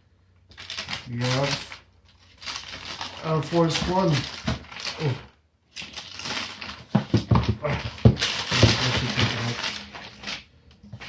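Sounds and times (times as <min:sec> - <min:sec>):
paper wrapping crinkling: 0:00.5 - 0:11.0.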